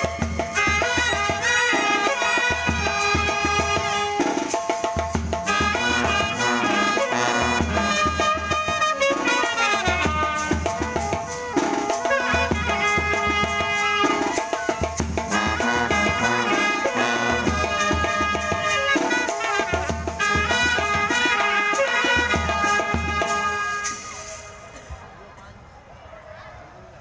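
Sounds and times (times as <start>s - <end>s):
bass drum and snare drum: 0.0s - 24.4s
trumpets and horns playing melody: 0.0s - 24.8s.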